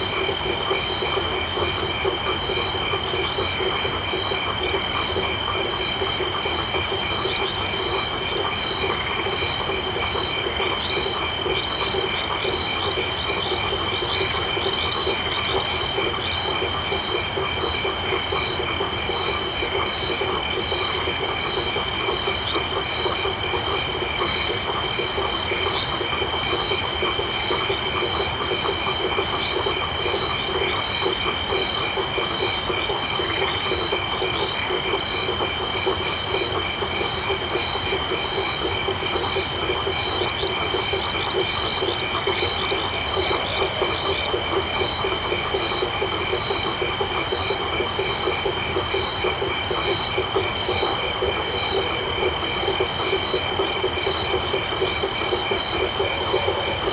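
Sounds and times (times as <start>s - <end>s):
low pulsing frog chorus: 0.0s - 56.9s
high insect trill: 5.5s - 56.9s.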